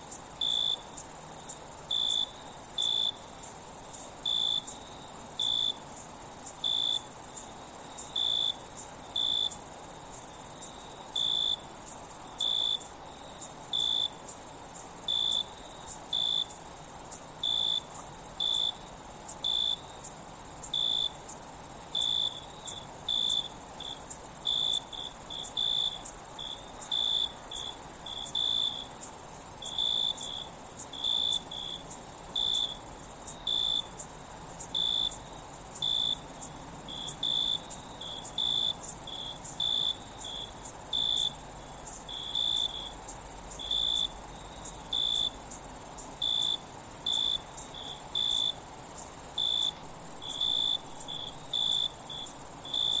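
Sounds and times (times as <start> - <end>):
crickets trilling: 0.0 - 53.0.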